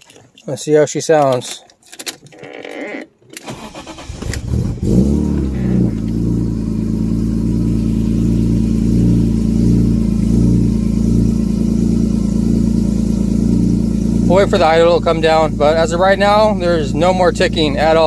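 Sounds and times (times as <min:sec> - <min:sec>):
car engine cranking and idling: 0:03.2 - 0:18.0.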